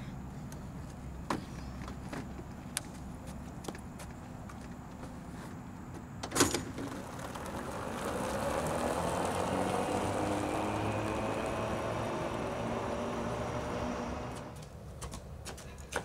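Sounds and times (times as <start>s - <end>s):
golf cart running and tyre noise: 0.1s - 15.4s.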